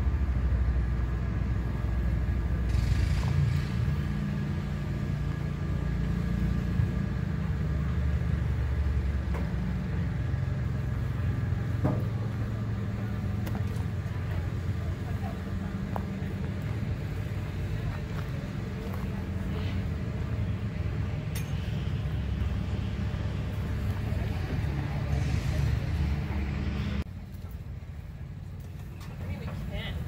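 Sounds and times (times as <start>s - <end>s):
low machinery rumble: 0.0s - 30.0s.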